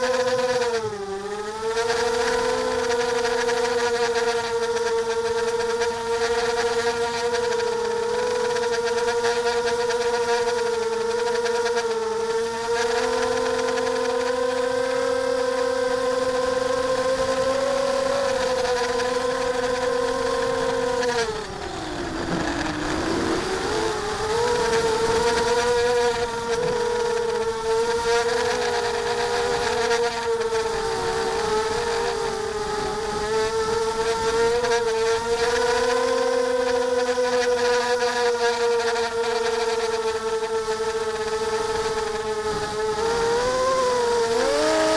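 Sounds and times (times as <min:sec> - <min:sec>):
drone propellers whining: 0:00.0 - 0:44.9.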